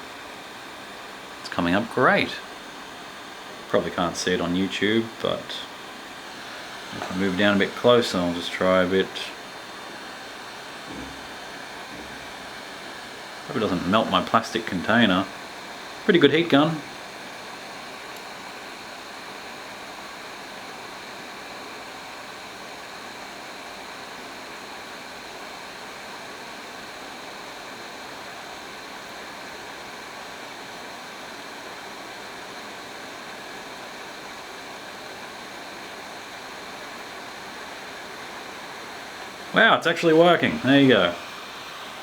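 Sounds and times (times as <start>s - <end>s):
heat gun blowing air: 0.0s - 42.0s.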